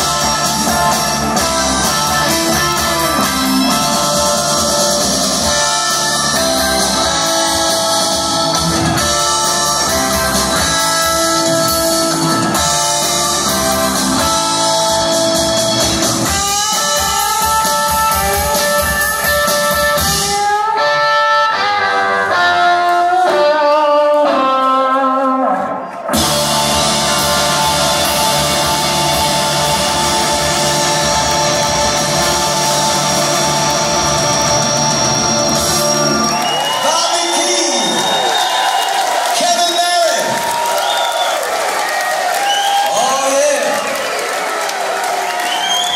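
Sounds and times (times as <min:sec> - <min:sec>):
held high guitar notes: 0:00.0 - 0:36.8
blues-rock band playing: 0:00.0 - 0:38.5.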